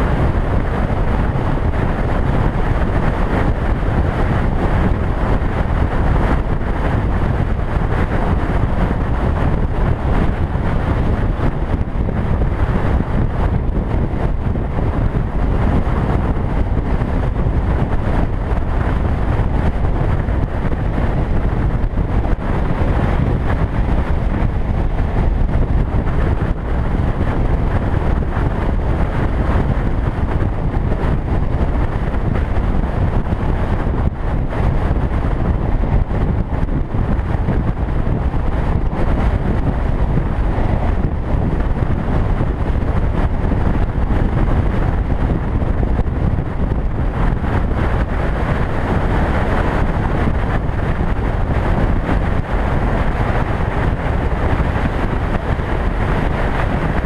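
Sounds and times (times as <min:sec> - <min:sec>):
tyre noise on road: 0:00.0 - 0:57.0
wind buffeting microphone: 0:00.0 - 0:57.0.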